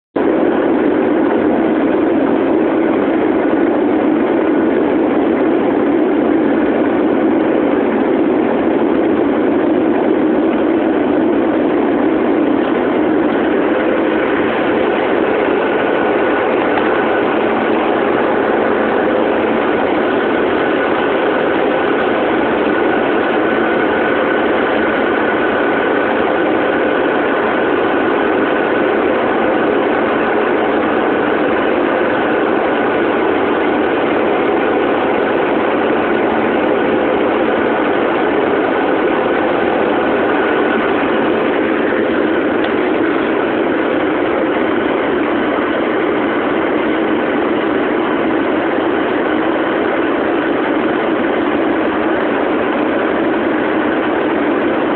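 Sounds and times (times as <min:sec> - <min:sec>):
high engine whine: 0:00.1 - 0:54.9
jet cabin airflow rush: 0:00.2 - 0:54.9.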